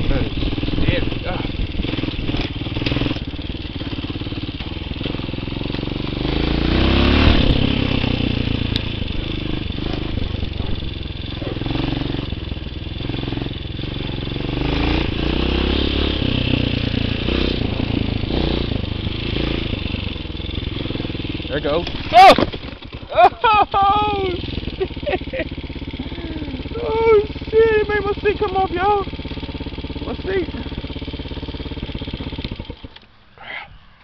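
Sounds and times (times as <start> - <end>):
dirt bike engine revving: 0.0 - 33.6.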